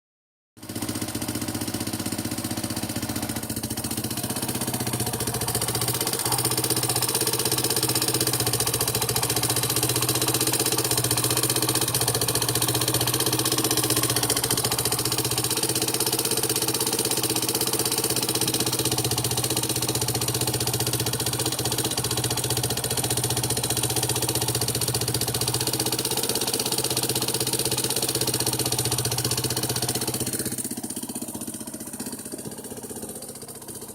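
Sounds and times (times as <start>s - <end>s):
motorcycle engine idling: 0.6s - 33.9s.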